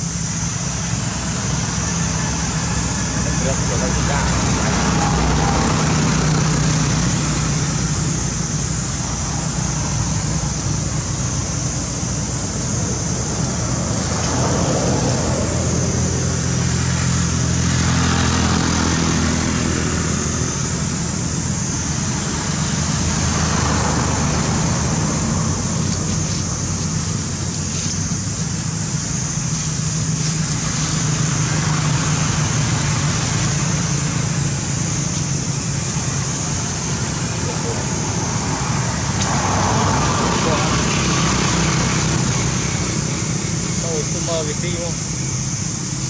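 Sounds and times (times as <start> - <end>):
engine hum: 0.0 - 46.0
high hiss: 0.0 - 46.0.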